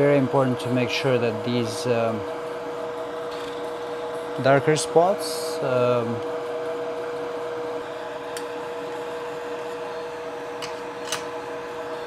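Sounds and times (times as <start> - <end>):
extractor fan whirring hum: 0.0 - 12.0.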